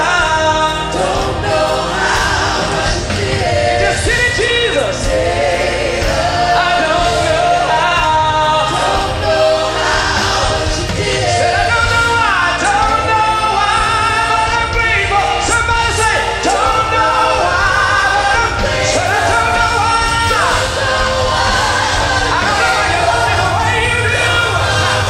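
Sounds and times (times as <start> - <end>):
backing singers: 0.0 - 25.0
instrumental accompaniment with heavy bass: 0.0 - 25.0
man singing gospel: 0.0 - 25.0.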